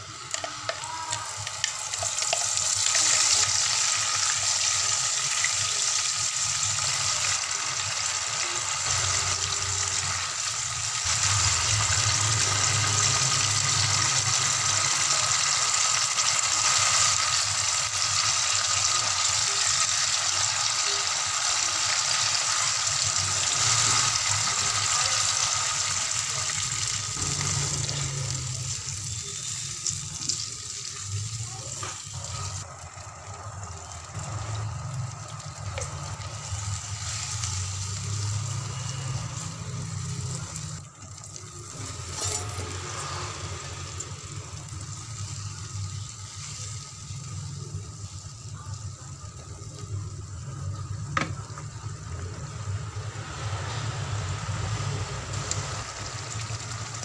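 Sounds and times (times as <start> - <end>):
sauce bubbling in a frying pan: 0.0 - 57.0.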